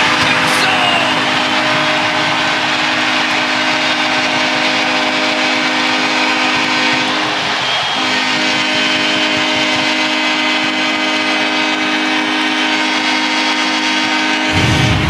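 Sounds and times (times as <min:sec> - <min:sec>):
goal horn blast: 0:00.0 - 0:15.0.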